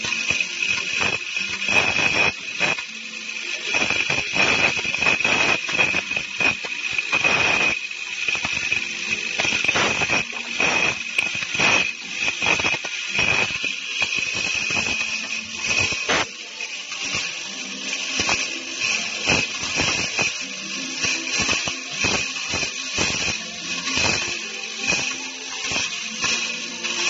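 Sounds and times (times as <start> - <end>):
bursts of harsh noise: 0.0 - 27.0
machine whining while cutting metal: 0.0 - 27.0.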